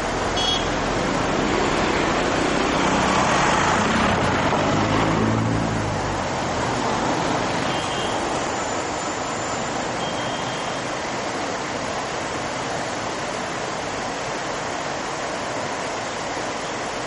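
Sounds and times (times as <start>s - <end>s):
whitewater rapids roaring: 0.0s - 17.0s.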